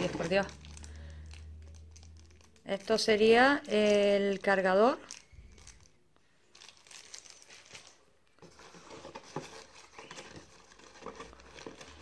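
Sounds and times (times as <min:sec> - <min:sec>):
plastic bag rustling: 0:00.0 - 0:12.0
tissue paper crinkling: 0:00.0 - 0:12.0.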